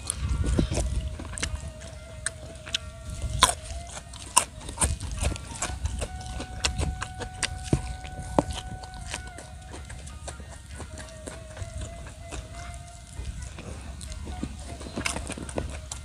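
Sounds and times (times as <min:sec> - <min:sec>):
wet chewing and mouth clicks: 0:00.0 - 0:16.0
wind rumble on microphone: 0:00.0 - 0:16.0.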